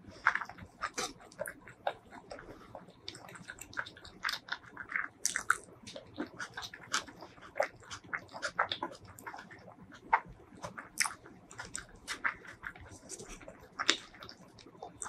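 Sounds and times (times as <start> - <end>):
chewing rice: 0.0 - 15.0
wet mouth clicks and smacks: 0.2 - 15.0.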